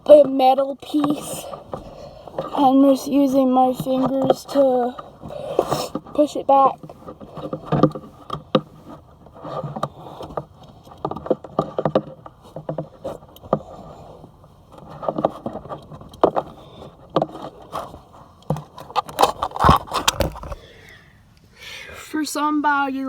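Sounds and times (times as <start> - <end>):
fingers rubbing upholstery: 0.0 - 20.6.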